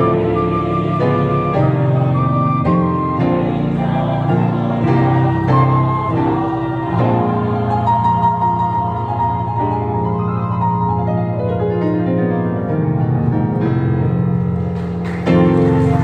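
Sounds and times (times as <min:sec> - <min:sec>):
piano organ and violin hymn: 0:00.0 - 0:16.0.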